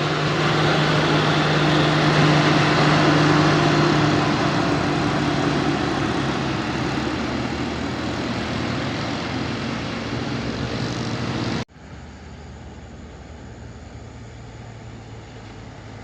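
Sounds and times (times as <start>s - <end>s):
heavy truck engine running: 0.0s - 16.0s.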